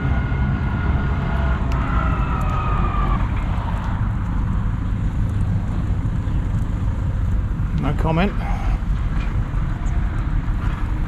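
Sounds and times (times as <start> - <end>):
low traffic rumble: 0.0 - 11.0
passing vehicle whine: 0.0 - 11.0.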